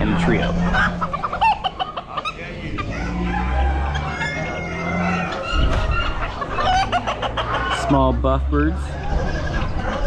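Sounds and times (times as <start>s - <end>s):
chickens clucking: 0.0s - 10.0s
roosters crowing: 0.0s - 10.0s.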